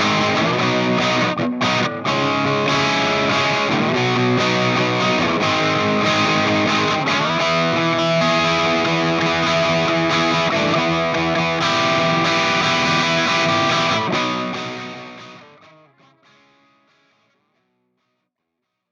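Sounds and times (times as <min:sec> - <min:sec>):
distorted electric guitar: 0:00.0 - 0:18.2.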